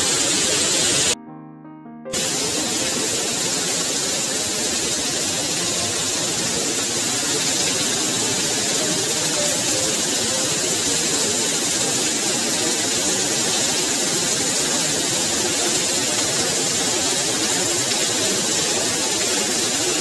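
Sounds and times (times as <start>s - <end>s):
heavy rain on concrete: 0.0s - 1.2s, 2.2s - 20.0s
roof runoff splashing: 2.1s - 20.0s.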